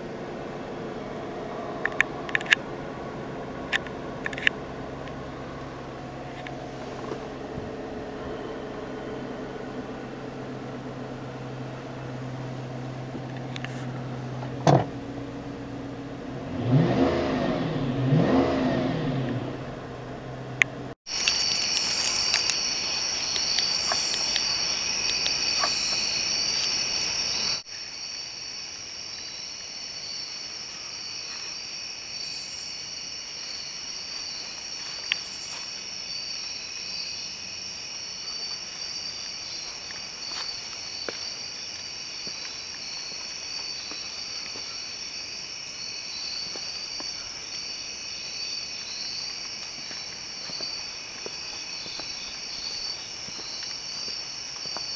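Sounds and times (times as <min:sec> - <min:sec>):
crickets chirping: 0:00.0 - 0:17.2, 0:21.1 - 0:54.9.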